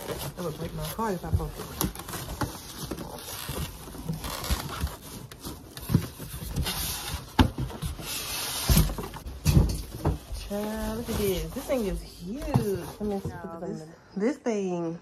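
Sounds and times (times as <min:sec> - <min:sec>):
plastic wrapping crinkling: 0:00.0 - 0:13.6
cardboard rubbing and scraping: 0:00.0 - 0:13.7.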